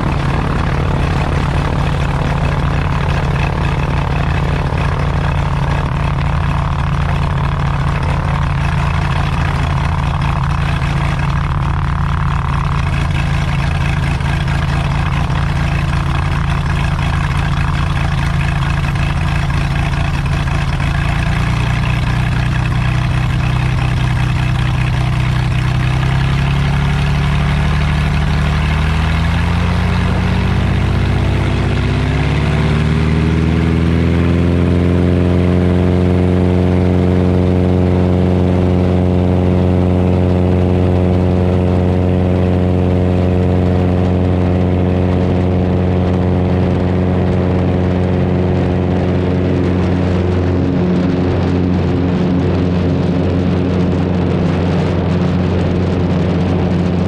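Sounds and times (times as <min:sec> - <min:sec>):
aircraft engine and propeller running: 0:00.0 - 0:57.0.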